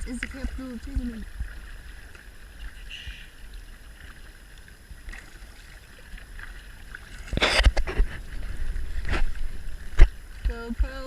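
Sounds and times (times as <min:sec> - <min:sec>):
faint water noise: 0:00.0 - 0:11.0
paddle splashing: 0:00.0 - 0:11.0.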